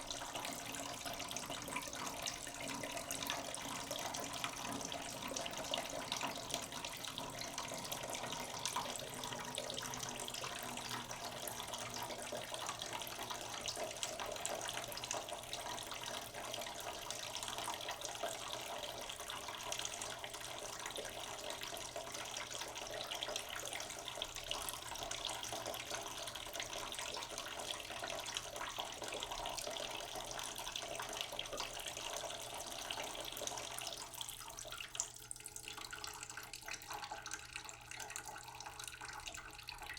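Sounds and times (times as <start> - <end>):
tap water filling a pot: 0.0 - 39.9.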